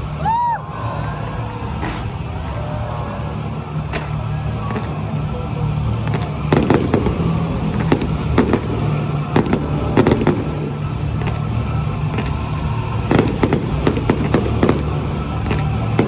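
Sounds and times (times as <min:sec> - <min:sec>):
background music: 0:00.0 - 0:16.0
fireworks bangs: 0:01.3 - 0:16.0.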